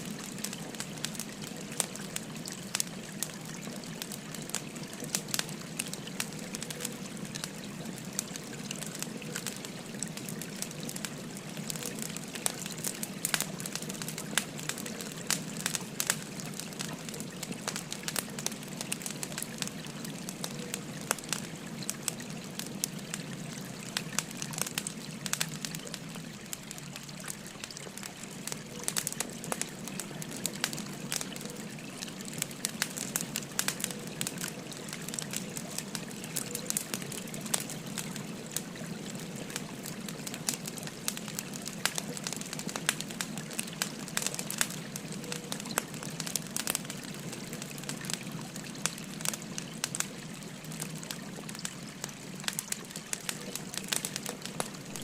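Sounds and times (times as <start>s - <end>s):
firewood crackling and popping: 0.0s - 55.0s
flowing stream babbling: 0.0s - 55.0s.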